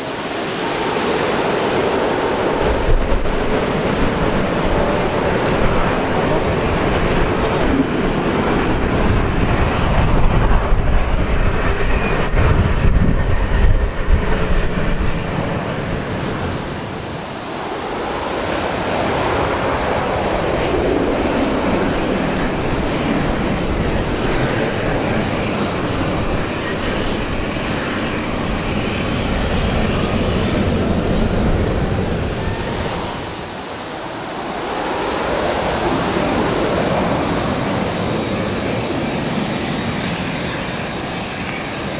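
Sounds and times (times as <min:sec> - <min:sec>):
jet engine deep rumble: 0:00.0 - 0:41.9
jets roaring overhead: 0:00.0 - 0:41.9.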